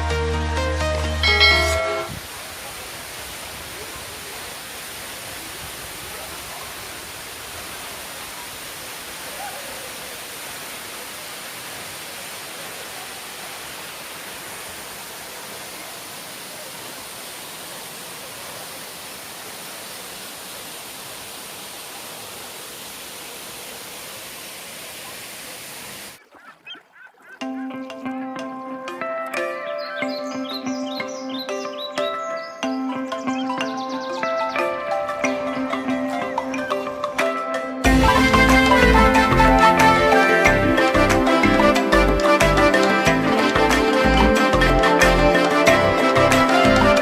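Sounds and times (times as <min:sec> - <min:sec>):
running water rushing: 0:00.0 - 0:47.0.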